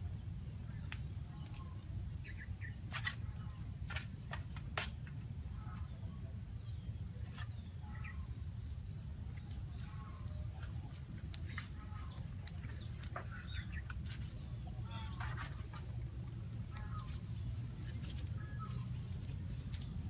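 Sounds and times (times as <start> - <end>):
birds chirping: 0.0 - 20.0
low outdoor rumble: 0.0 - 20.0
twigs cracking in fire: 0.6 - 20.0.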